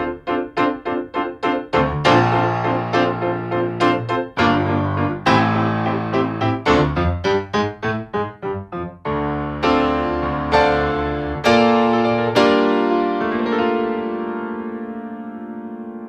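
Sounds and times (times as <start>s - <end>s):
digital piano playing: 0.0s - 16.0s.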